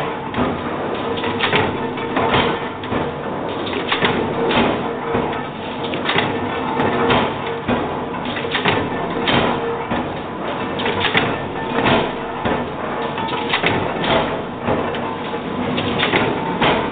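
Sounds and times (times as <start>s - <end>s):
press and feeder running noise: 0.0s - 16.9s.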